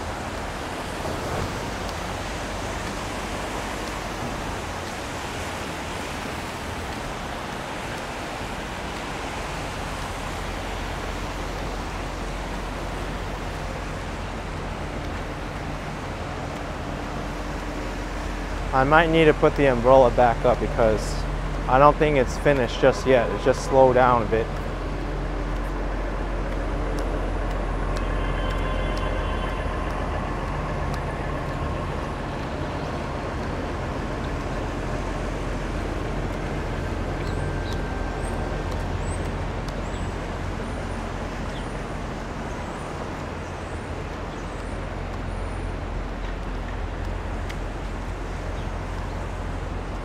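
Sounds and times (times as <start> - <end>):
low rumble of buses and trucks: 0.0 - 50.0
passing traffic: 0.0 - 50.0.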